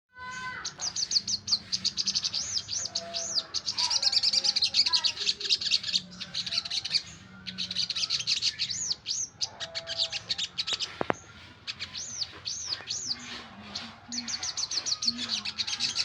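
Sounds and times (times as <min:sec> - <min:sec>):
songbird singing: 0:00.1 - 0:16.0.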